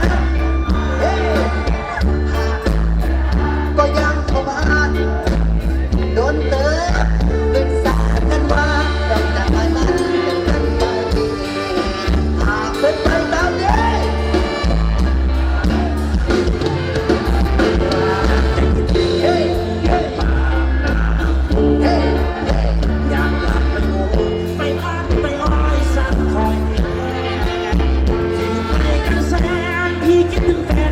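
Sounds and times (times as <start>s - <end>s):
live band with heavy bass: 0.0s - 30.9s
person singing: 0.0s - 30.9s.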